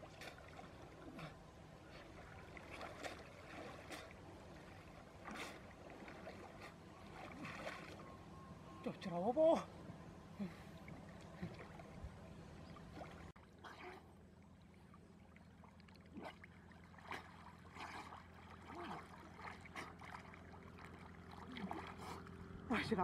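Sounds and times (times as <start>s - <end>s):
low steady hum: 0.0s - 23.0s
water sloshing and splashing: 0.0s - 23.0s.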